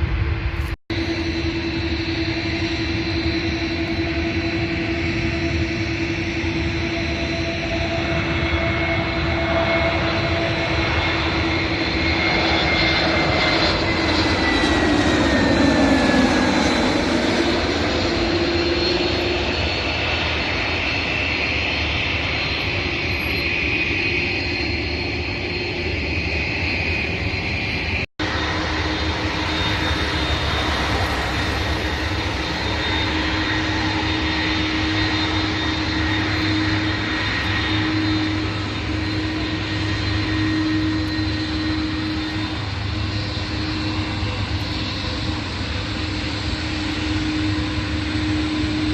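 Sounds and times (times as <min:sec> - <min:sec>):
falling engine whine: 0:00.0 - 0:48.9
jet engines roaring: 0:00.0 - 0:48.9.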